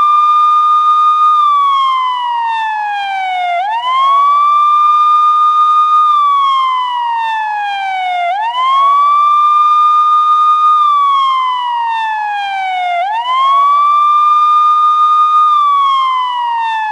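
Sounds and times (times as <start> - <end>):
police siren wailing: 0.0 - 16.9.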